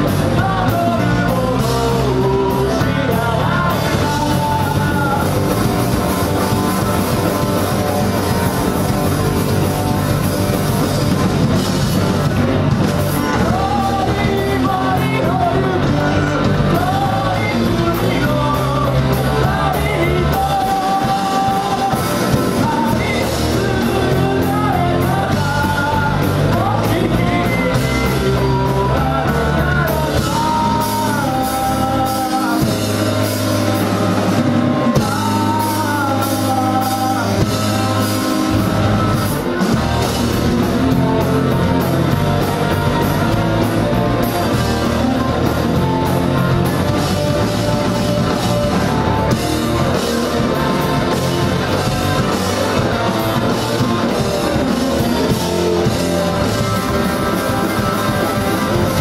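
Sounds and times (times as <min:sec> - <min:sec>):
drum kit: 0:00.0 - 0:59.0
electric guitar: 0:00.0 - 0:59.0
person singing: 0:00.0 - 0:59.0.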